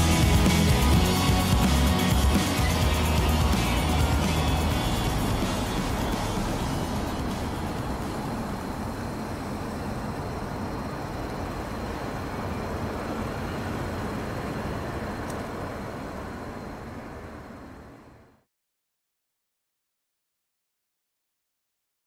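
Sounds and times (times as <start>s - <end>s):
steady rumbling noise: 0.0s - 18.4s.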